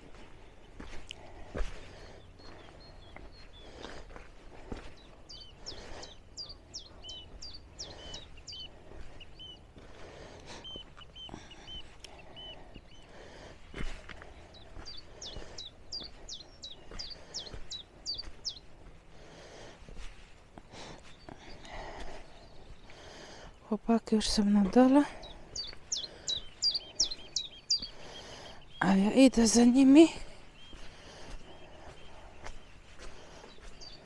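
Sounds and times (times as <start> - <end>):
footsteps on muddy stony path: 0.0 - 34.0
songbird singing: 0.0 - 34.0.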